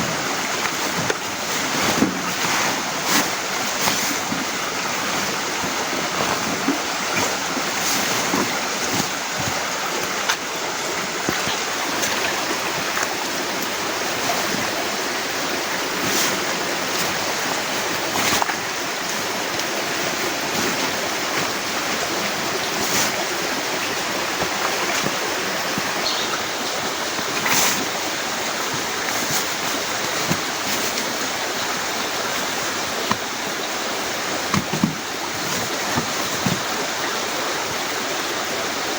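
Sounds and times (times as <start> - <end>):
raindrops hitting close by: 0.0 - 37.7.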